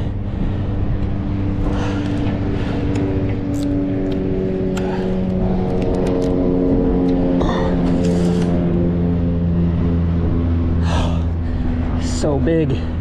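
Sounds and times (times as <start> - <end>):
vehicle engines passing: 0.0 - 13.0.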